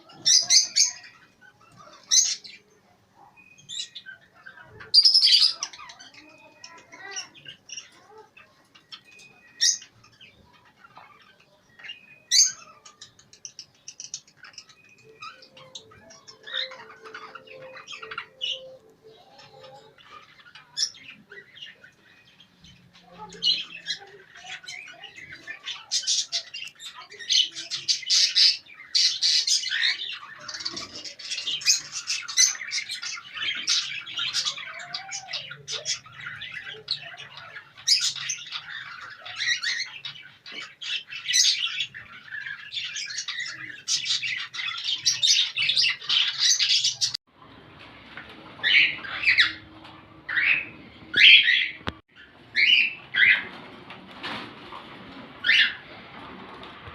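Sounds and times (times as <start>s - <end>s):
parrots chattering and squawking: 0.0s - 47.2s, 48.4s - 56.9s.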